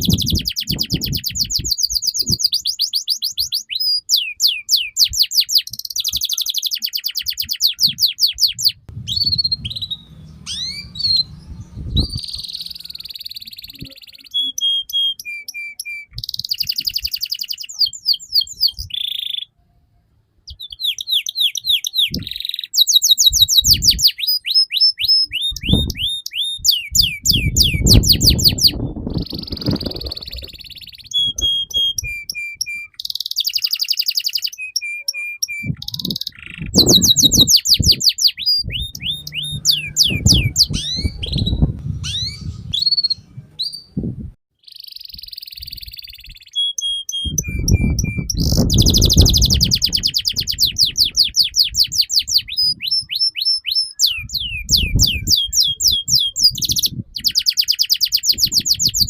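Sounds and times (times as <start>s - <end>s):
canary singing: 0.0s - 19.6s, 20.5s - 59.0s.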